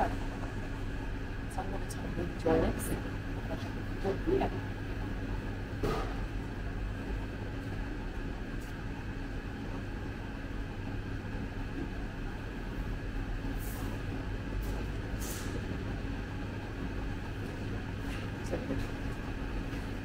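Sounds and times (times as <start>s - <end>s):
ventilation hum: 0.0s - 20.0s.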